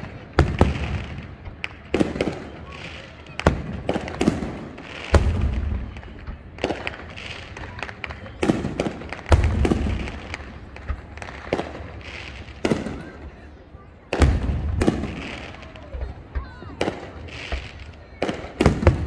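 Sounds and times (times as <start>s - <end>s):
sharp firework pops: 0.0s - 13.4s, 14.0s - 19.0s.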